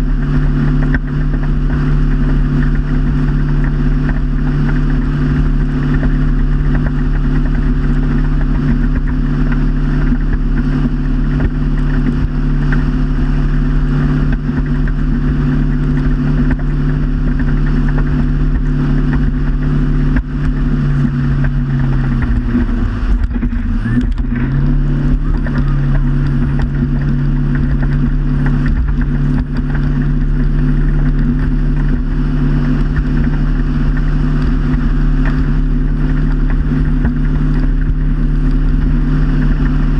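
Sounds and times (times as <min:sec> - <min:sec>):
motorboat engine running: 0:00.0 - 0:39.9
rush of wind and water: 0:00.0 - 0:39.9.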